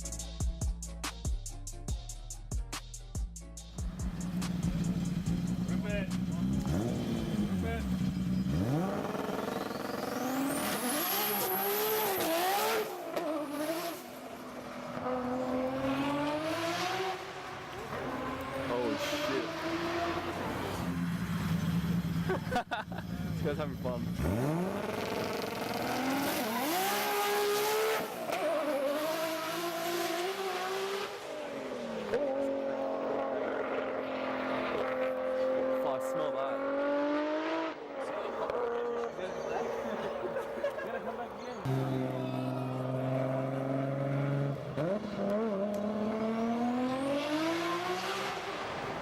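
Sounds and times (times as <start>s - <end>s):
car engine at high revs: 4.1s - 22.6s, 23.4s - 40.9s, 41.6s - 49.0s.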